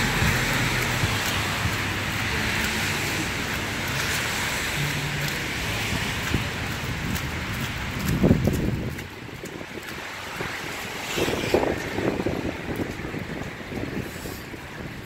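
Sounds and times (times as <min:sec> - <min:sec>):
city street traffic: 0:00.0 - 0:15.0
wind on microphone: 0:00.0 - 0:15.0.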